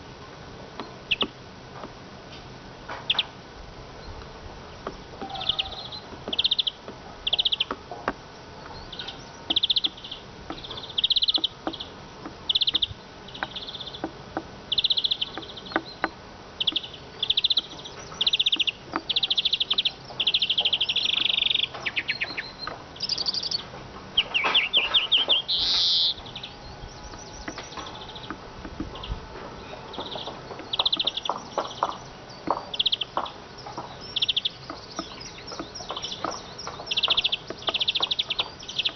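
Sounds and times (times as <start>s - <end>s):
bird twittering: 0.8s - 1.4s, 3.1s - 3.3s, 4.0s - 38.9s
buzzy bird trill: 4.8s - 38.9s.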